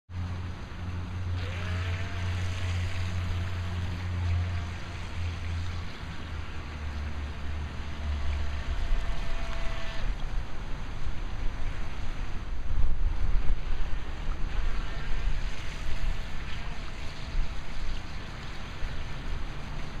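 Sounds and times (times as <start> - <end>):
electric boat motor whining: 0.2 - 12.7, 13.5 - 20.0
propeller and spray hiss: 0.3 - 12.6, 13.4 - 20.0.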